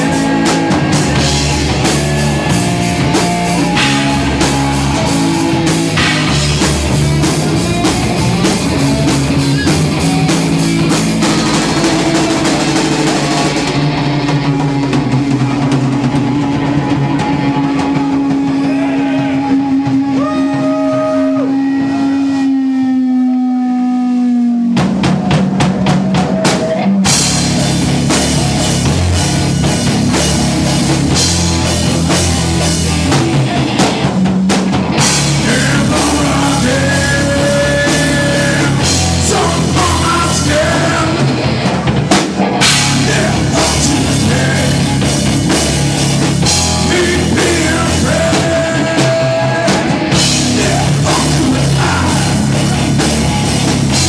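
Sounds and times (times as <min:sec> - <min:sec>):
drum kit: 0:00.0 - 0:23.4, 0:24.2 - 0:54.0
heavy rock band playing live: 0:00.0 - 0:23.4, 0:24.4 - 0:54.0.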